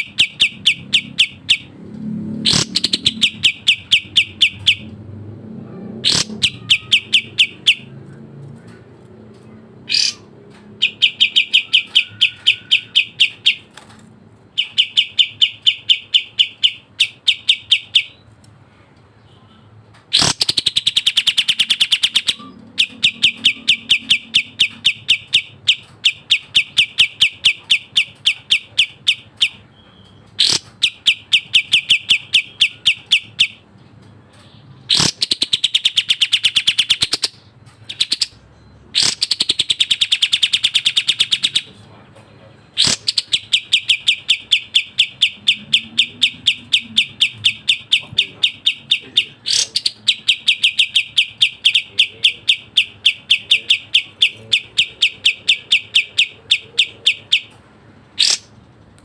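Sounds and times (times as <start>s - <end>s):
bird singing rapid high notes: 0.0s - 5.0s, 6.0s - 8.8s, 9.4s - 18.3s, 19.2s - 41.8s, 42.6s - 57.6s, 58.2s - 58.6s.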